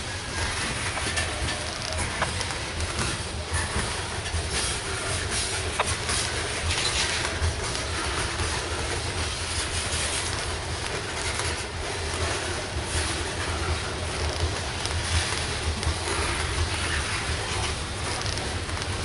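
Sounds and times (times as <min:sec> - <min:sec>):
train rumbling past: 0:00.0 - 0:19.0
wheels hissing on track: 0:00.0 - 0:19.0.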